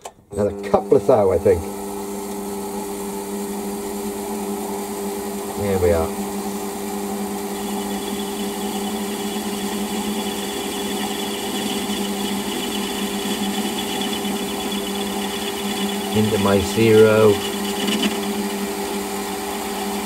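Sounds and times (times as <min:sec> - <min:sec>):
cutting tool whine: 0:00.0 - 0:20.0
lathe motor hum: 0:00.3 - 0:20.0.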